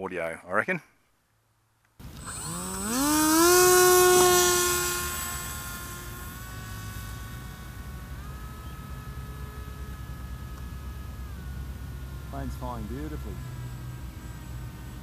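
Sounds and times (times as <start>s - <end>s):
electric motor and propeller whine: 2.0s - 15.0s.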